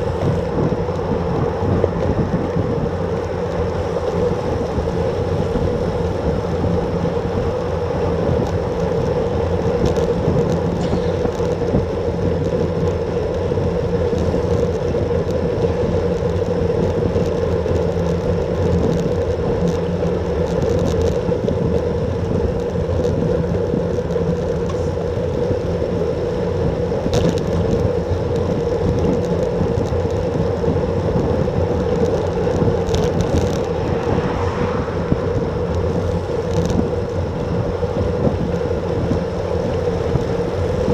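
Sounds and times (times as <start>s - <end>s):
bike tyres humming on asphalt: 0.0s - 40.9s
wind noise on microphone: 0.0s - 40.9s.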